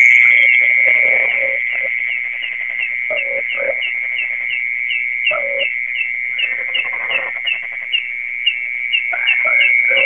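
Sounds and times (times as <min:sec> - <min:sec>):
high insect trill: 0:00.0 - 0:10.0.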